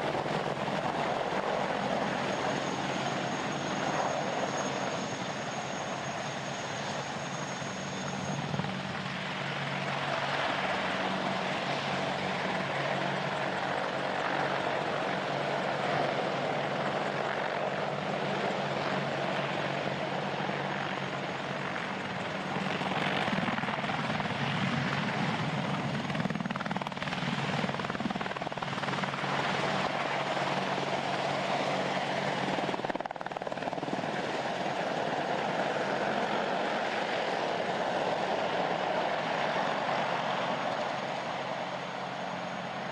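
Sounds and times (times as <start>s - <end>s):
helicopter turbine and rotor noise: 0.0s - 42.9s.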